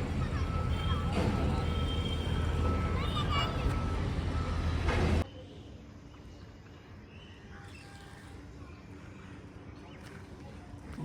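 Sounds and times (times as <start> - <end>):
loud outdoor noise: 0.0 - 11.0.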